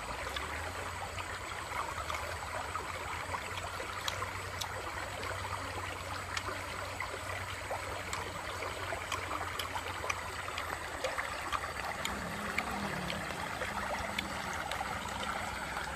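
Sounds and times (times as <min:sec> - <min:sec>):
stream babbling over stones: 0:00.0 - 0:15.9.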